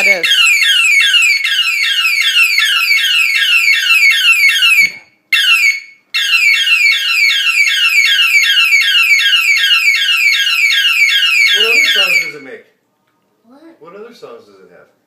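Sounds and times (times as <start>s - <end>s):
toy police siren yelping: 0.0s - 12.4s.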